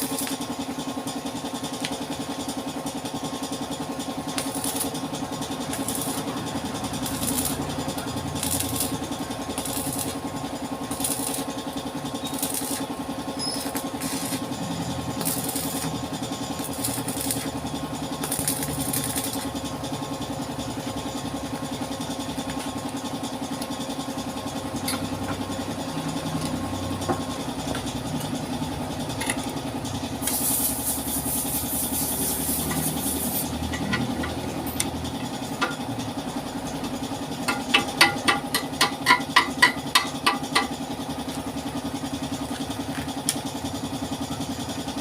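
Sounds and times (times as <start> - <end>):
engine hum: 0.0 - 38.8.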